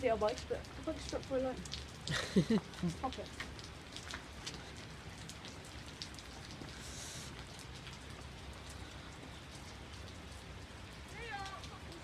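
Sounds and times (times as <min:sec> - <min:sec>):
drops ticking nearby: 0:00.0 - 0:12.0
steady rain: 0:00.0 - 0:12.0.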